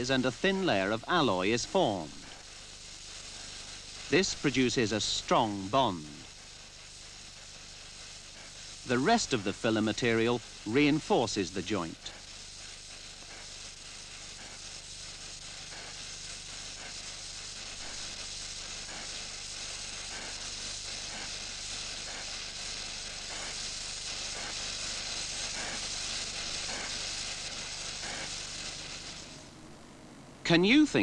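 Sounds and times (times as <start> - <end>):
welding torch flame hissing: 0.0 - 31.0.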